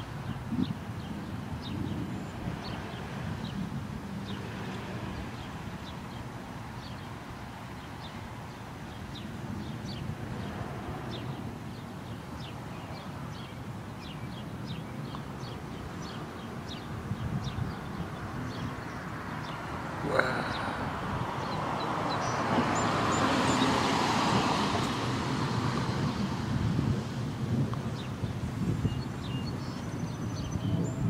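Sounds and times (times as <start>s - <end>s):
birds chirping: 0.0s - 24.9s, 27.8s - 31.0s.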